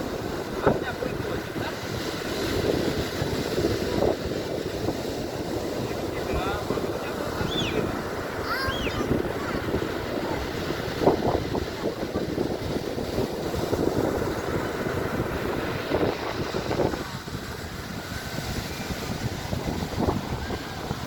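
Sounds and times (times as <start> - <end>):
rough sea surf: 0.0 - 21.0
wind buffeting microphone: 0.0 - 21.0.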